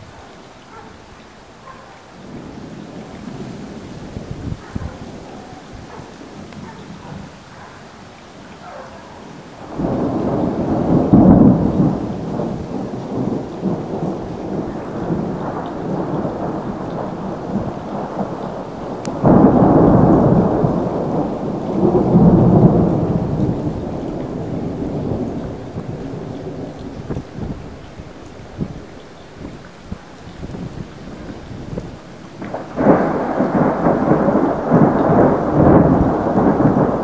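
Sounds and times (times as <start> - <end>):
thunder cracking and rumbling: 1.6 - 7.8, 8.5 - 37.0.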